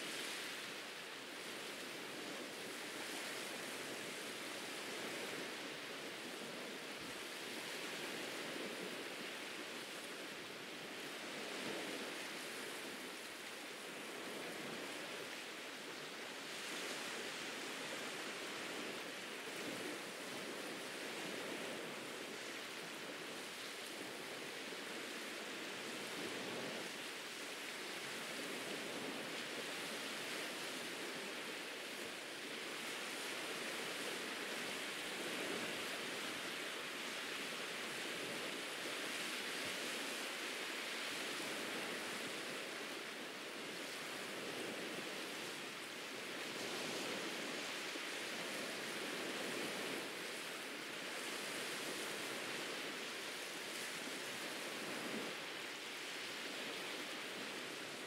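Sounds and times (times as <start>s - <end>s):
ocean surf washing onto beach: 0.0s - 58.0s.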